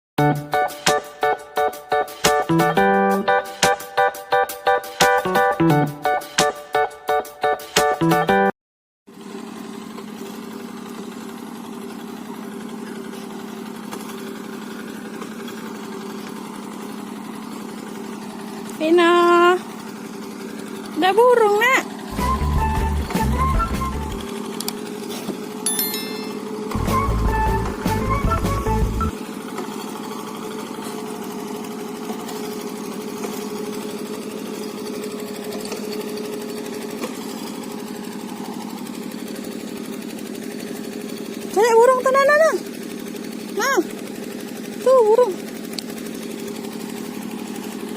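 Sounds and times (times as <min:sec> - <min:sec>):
small engine running: 0:00.2 - 0:06.5, 0:09.1 - 0:47.9.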